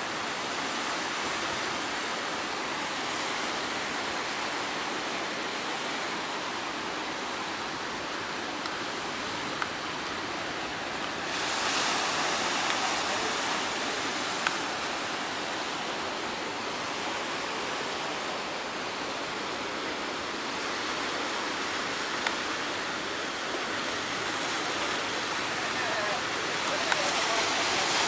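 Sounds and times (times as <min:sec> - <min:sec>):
sea waves breaking: 0:00.0 - 0:28.0.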